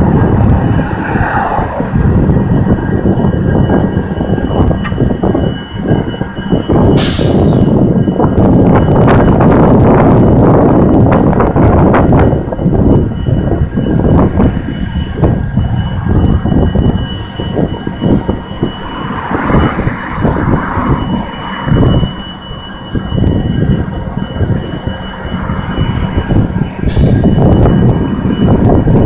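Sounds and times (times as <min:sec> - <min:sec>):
diesel locomotives rumbling: 0:00.0 - 0:29.0.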